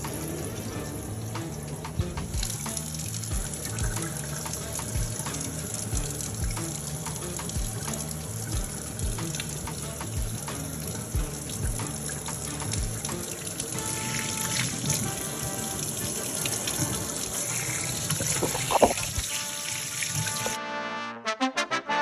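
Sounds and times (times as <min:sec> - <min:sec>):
faint music: 0:00.0 - 0:20.6
water running from faucet into sink: 0:00.0 - 0:20.6
brass music: 0:00.0 - 0:22.0.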